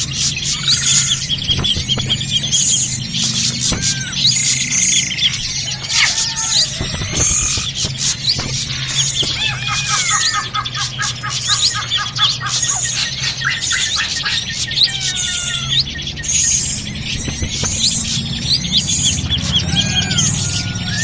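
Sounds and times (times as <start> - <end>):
chorus of small birds: 0.0 - 21.0.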